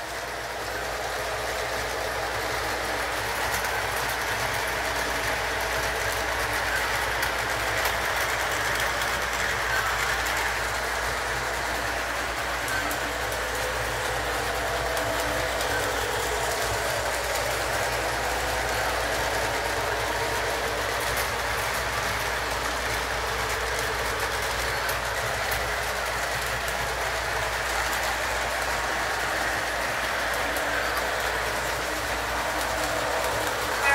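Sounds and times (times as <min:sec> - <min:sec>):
model train motor whirring: 0:00.0 - 0:33.9.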